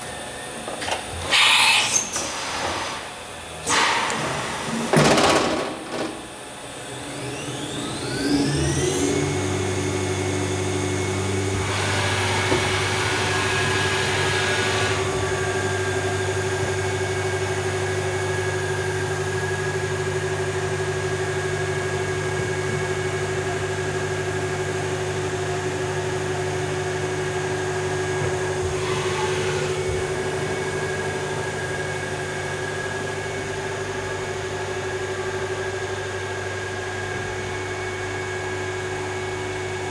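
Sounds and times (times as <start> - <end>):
machine spindle whine and hum: 0.0 - 39.9.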